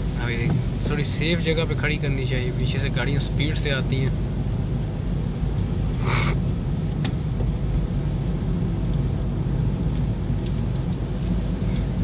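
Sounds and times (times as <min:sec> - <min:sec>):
car engine rumble in cabin: 0:00.0 - 0:12.0
rain: 0:00.0 - 0:12.0
tyres on wet road: 0:00.0 - 0:12.0.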